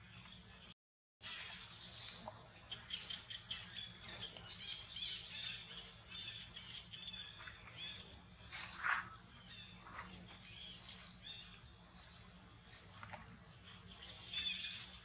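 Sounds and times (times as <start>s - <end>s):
faint steady hum: 1.3s - 15.0s.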